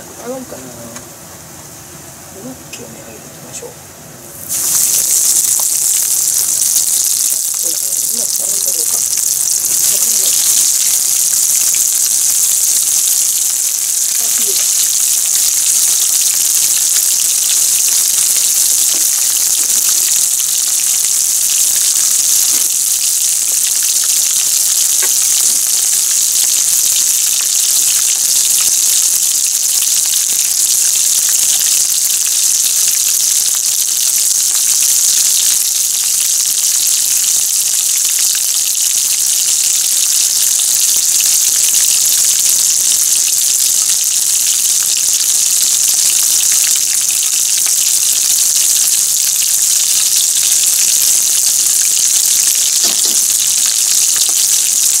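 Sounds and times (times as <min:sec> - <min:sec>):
food deep-frying in oil: 0:04.2 - 0:55.0.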